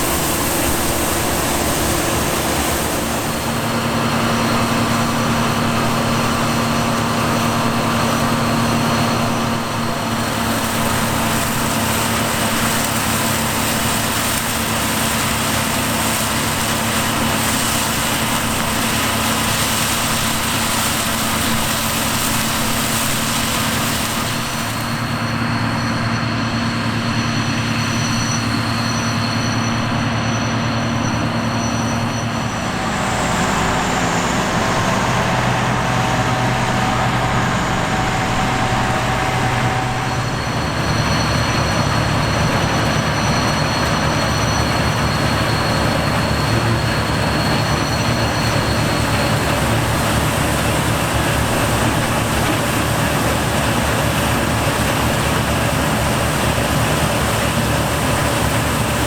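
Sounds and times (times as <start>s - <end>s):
harvest machinery engine drone: 0.0s - 59.0s
high steady whine: 0.0s - 59.0s.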